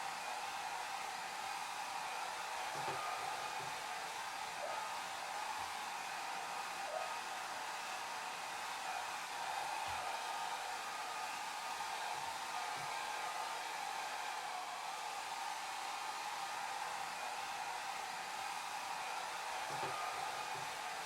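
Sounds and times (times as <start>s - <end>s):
hair dryer blowing air: 0.0s - 21.0s.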